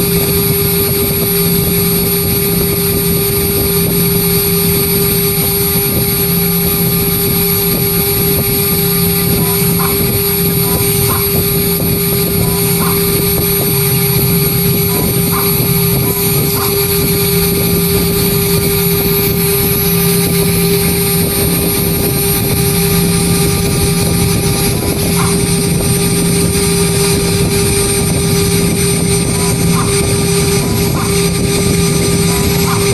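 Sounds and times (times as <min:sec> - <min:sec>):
engraving machine spindle whine: 0:00.0 - 0:32.9.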